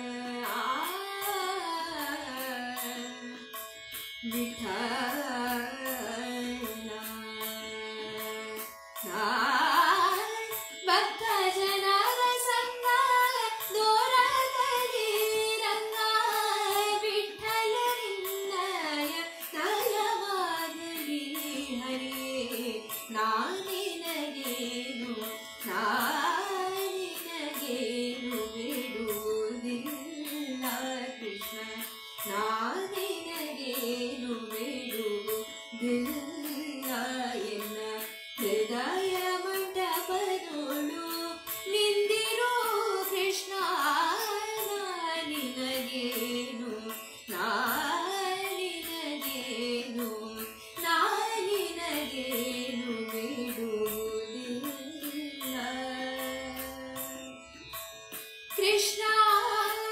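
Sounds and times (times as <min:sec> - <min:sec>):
woman singing: 0:00.0 - 0:03.5, 0:04.2 - 0:57.4, 0:58.5 - 0:59.9.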